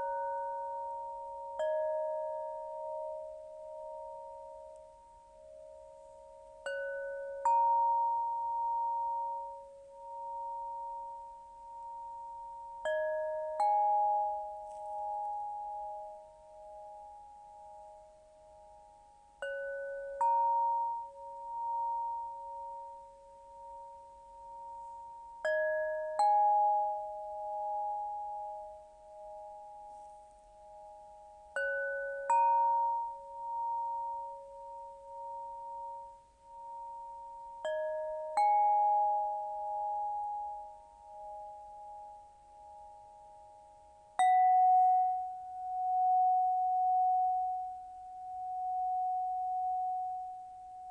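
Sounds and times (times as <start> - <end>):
ringing crystal tones: 0.0 - 50.9.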